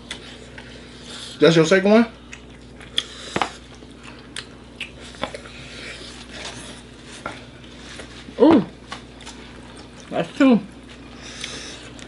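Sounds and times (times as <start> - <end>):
person chewing wet food: 0.0 - 1.4, 2.1 - 10.1, 10.7 - 12.0.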